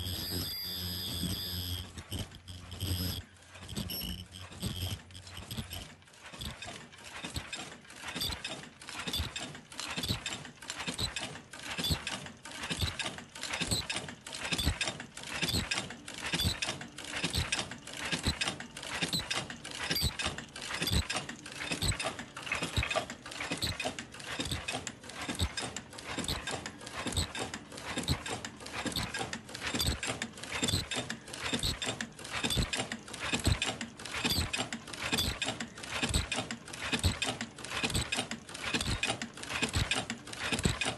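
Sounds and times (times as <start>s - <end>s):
mask machine clacking rhythmically: 1.0s - 40.9s.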